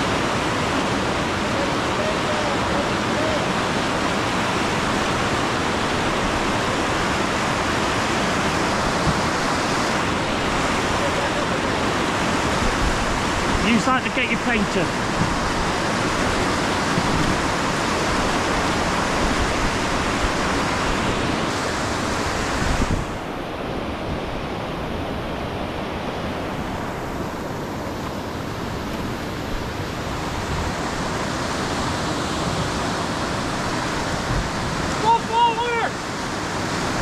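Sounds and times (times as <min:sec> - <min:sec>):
whitewater rapids rushing: 0:00.0 - 0:37.0.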